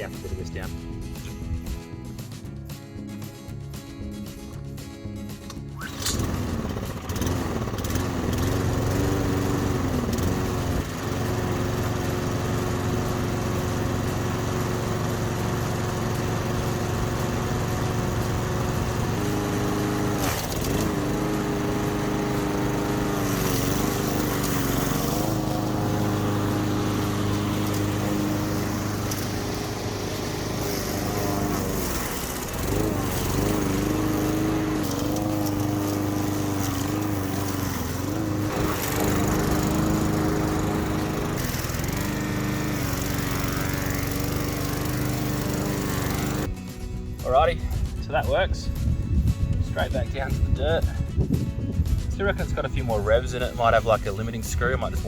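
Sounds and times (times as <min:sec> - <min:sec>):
small engine running: 0:05.3 - 0:48.0, 0:48.6 - 0:55.0.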